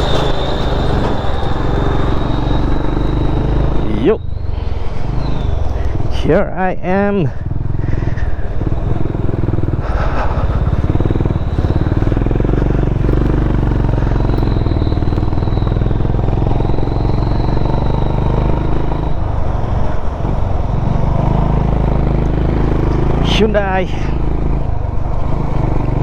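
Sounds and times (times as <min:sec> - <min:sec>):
road and wind noise: 0:00.0 - 0:26.0
vehicle engine running: 0:00.0 - 0:26.0.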